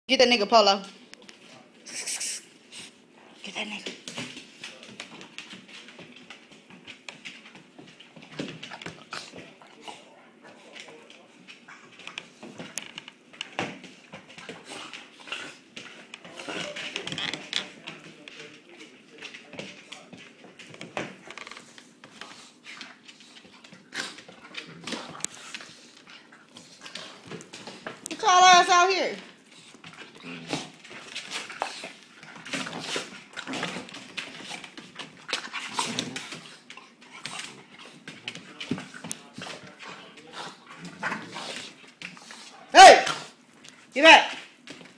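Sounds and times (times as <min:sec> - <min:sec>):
dogs scuffling: 0:02.5 - 0:44.9.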